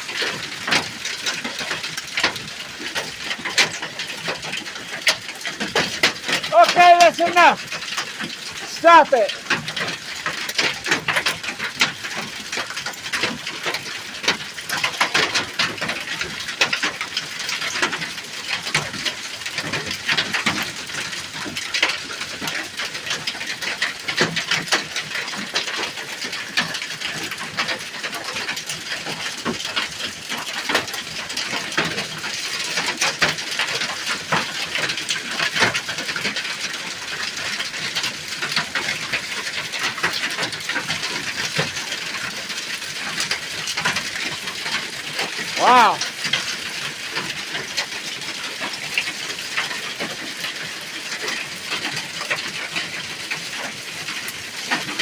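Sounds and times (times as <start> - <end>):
hail pelting a roof: 0.0 - 55.0.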